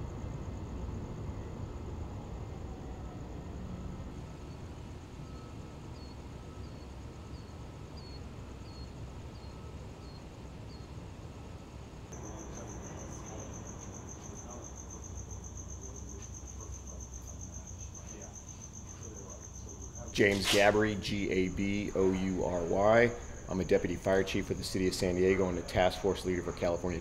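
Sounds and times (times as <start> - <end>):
crickets trilling: 0.0 - 27.0
low background rumble: 0.0 - 27.0.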